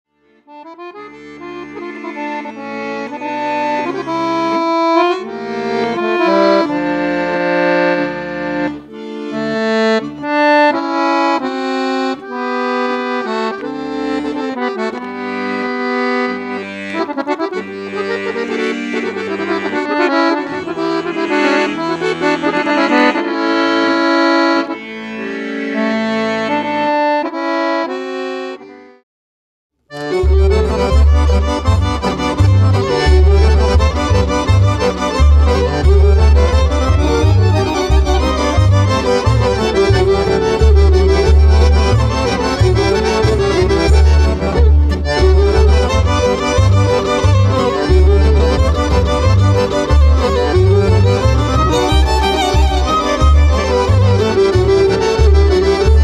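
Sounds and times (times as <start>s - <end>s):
accordion playing tune: 0.2s - 29.0s, 29.9s - 56.0s.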